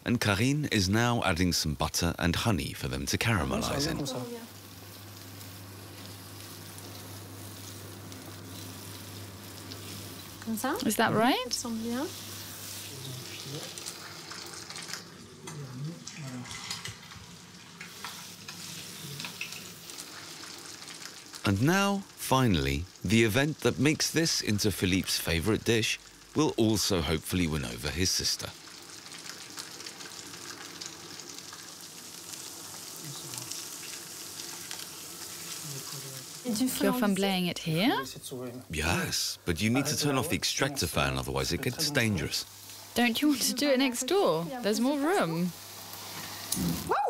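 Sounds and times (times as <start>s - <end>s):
fish frying in butter: 2.9s - 37.9s, 39.6s - 46.9s.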